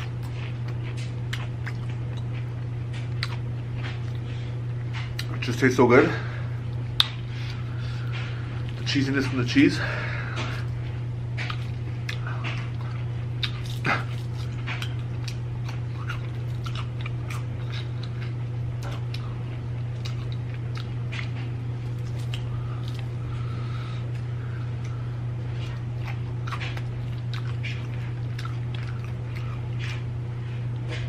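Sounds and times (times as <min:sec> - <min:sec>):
chewing fried chicken: 0:00.0 - 0:31.0
low hum: 0:00.0 - 0:31.0.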